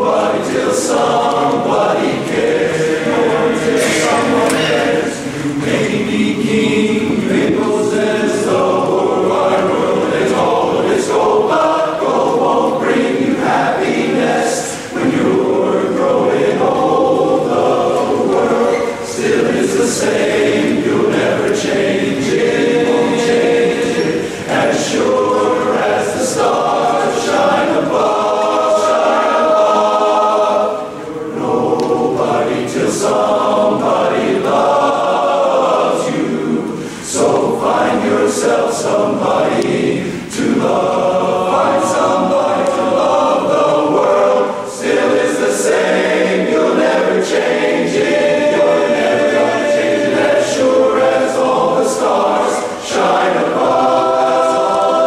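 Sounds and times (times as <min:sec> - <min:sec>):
men's chorus singing a cappella: 0:00.0 - 0:55.0.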